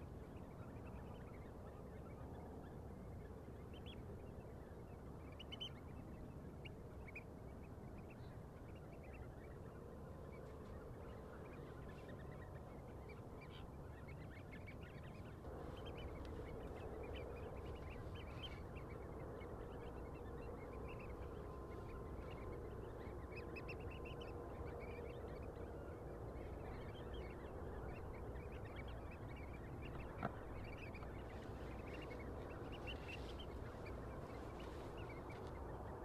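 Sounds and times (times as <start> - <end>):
faint steady hum: 0.0 - 36.0
low background noise: 0.0 - 36.0.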